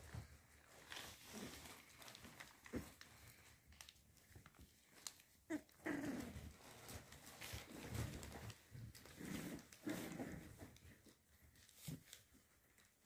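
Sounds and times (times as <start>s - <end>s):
rustling of fur and blankets: 0.0s - 13.0s.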